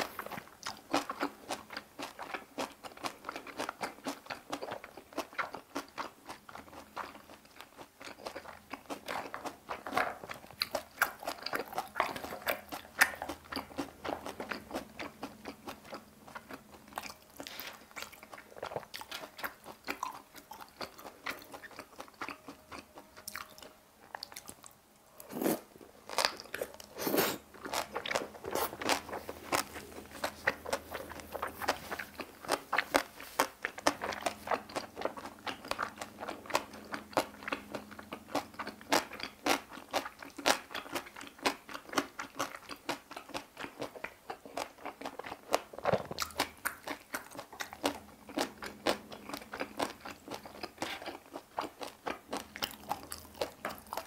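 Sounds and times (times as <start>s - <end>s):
crunchy wet chewing: 0.0s - 54.0s.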